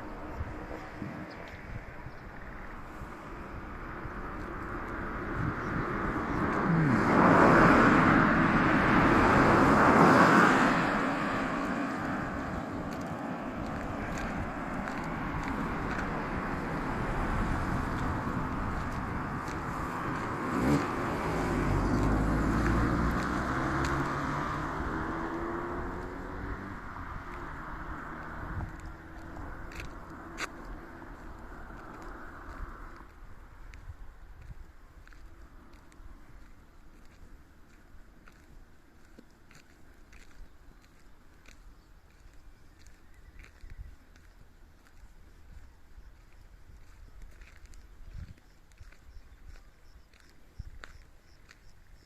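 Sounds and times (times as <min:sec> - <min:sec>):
vehicles passing on road: 0:00.0 - 0:52.0.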